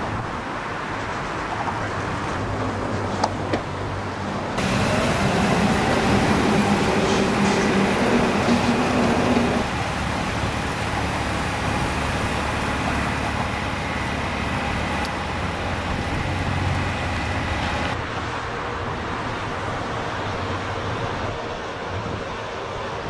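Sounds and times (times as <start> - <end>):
train rumbling on tracks: 0.0 - 23.0.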